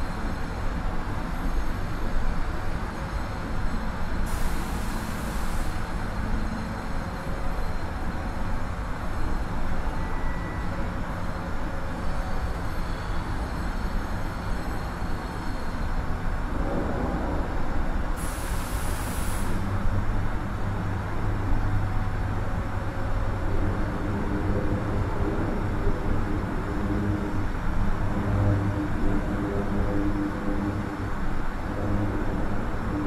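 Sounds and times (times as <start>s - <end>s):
industrial rumble and drone: 0.0s - 33.0s.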